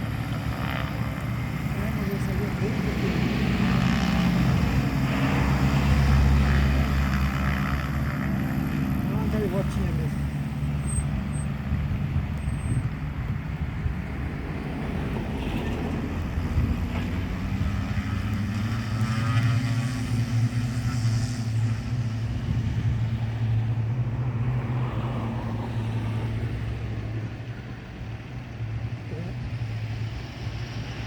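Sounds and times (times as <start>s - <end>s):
plane engines running: 0.0s - 31.0s.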